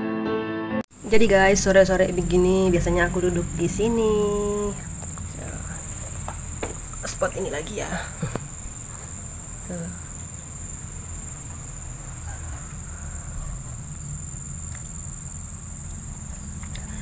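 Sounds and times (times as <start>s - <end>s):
insects trilling: 0.9s - 17.0s
faint low rumble: 1.0s - 17.0s.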